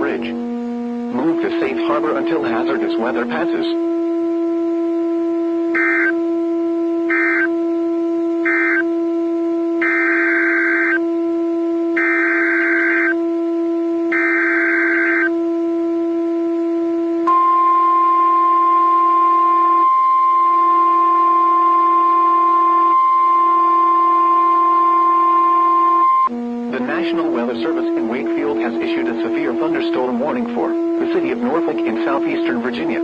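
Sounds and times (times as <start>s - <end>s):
buzzy data bursts: 0.0s - 33.0s
steady droning tone: 0.0s - 33.0s
weather radio alarm tone: 0.0s - 33.0s.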